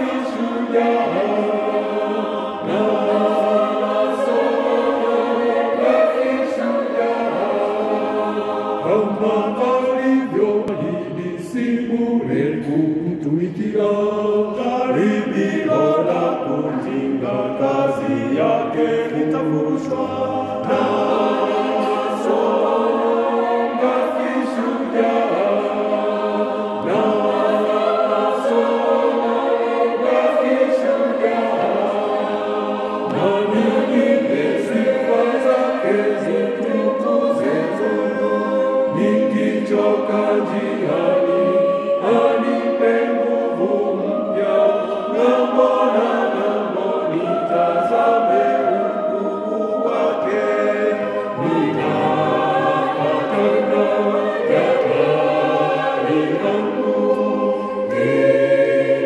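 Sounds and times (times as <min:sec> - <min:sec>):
mixed choir singing unaccompanied: 0:00.0 - 0:59.0.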